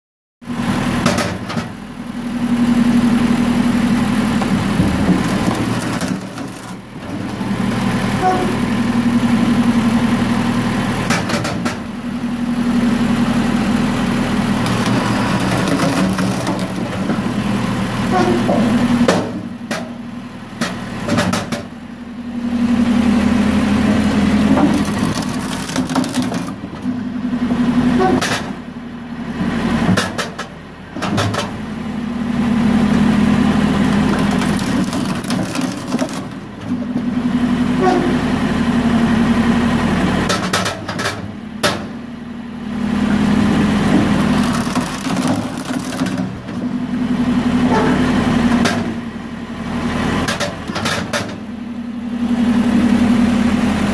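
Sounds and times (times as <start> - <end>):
tractor engine and machine running: 0.4 - 53.9.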